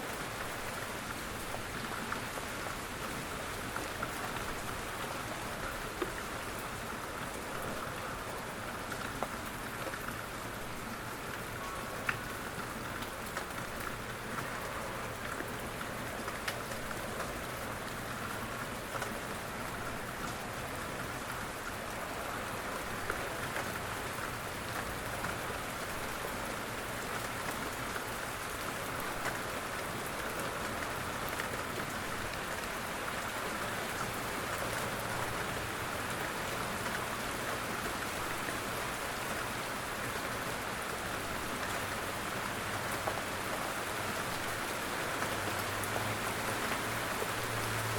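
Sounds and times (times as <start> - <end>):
steady rain patter: 0.0 - 47.9.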